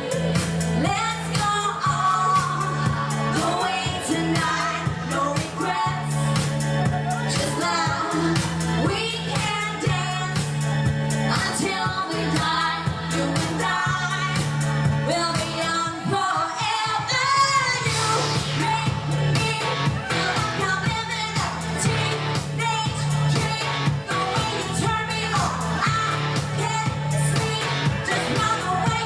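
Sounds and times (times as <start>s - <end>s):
woman singing pop song: 0.0s - 29.0s.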